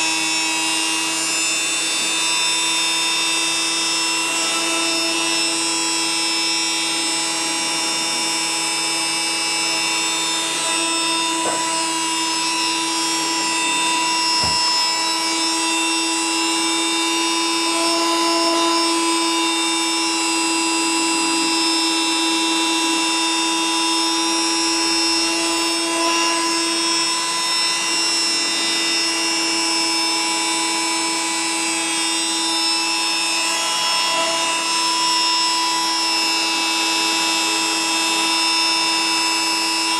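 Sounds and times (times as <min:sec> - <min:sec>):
machine motor whine: 0:00.0 - 0:39.9.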